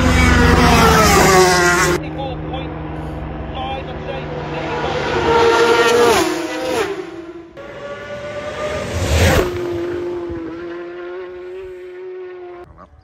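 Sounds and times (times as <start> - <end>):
motorbikes passing at high speed: 0.0 - 13.0.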